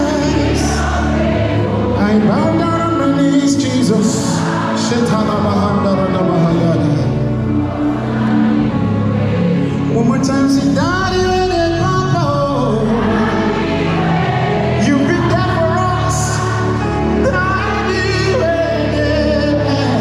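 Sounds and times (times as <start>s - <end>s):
backing singers: 0.0s - 20.0s
lead singer holding long notes: 0.0s - 20.0s.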